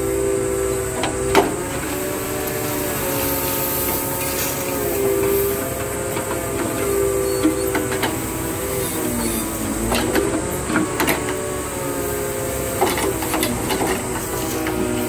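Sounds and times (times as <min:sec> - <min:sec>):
hydraulic machine whine: 0:00.0 - 0:15.0.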